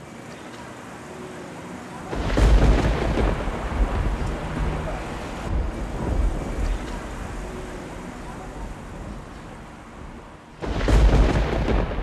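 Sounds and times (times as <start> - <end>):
deep rumble with hiss: 0.0 - 12.0.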